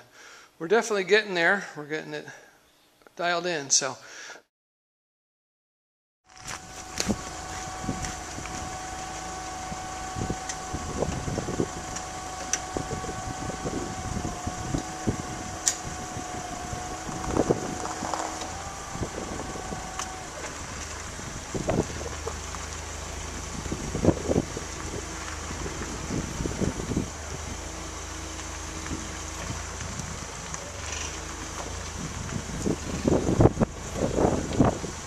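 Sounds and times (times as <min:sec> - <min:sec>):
forklift engine running: 0:06.3 - 0:35.0
steady whine: 0:06.3 - 0:35.0.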